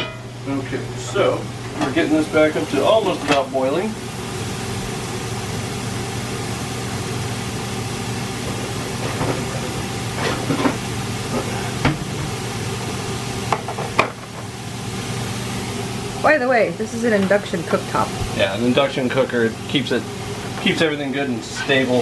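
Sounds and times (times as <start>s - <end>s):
pot heating hiss and hum: 0.0s - 22.0s.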